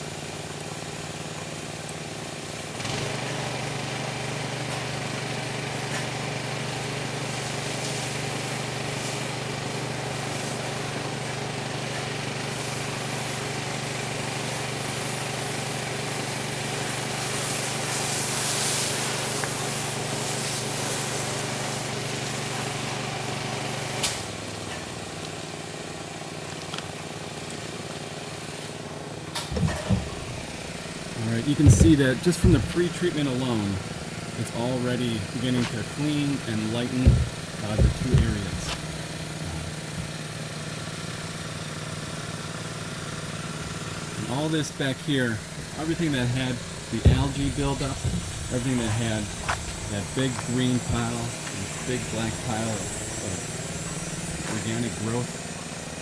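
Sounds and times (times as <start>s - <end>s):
hiss of spraying water: 0.0s - 56.0s
small gas engine running: 0.0s - 56.0s.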